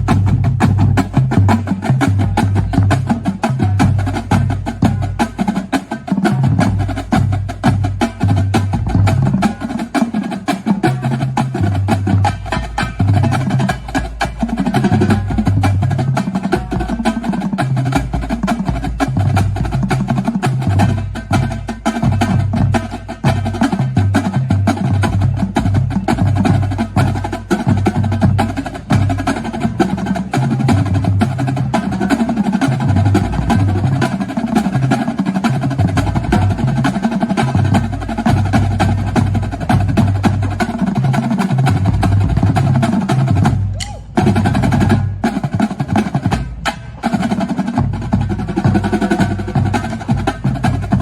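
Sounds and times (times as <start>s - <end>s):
tuned bass drums: 0.0s - 5.6s, 11.3s - 51.0s.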